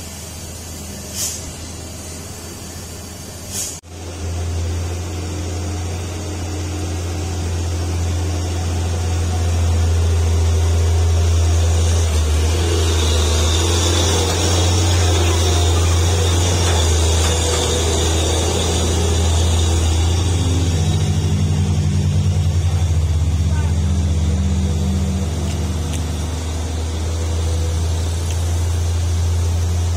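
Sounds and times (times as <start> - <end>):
truck hiss: 0.0 - 29.9
diesel truck engine droning: 3.9 - 29.9.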